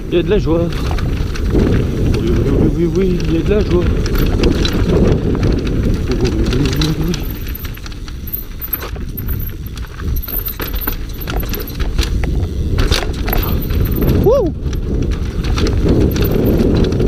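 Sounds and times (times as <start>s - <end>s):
mountain bike rattling over stones: 0.0s - 17.0s.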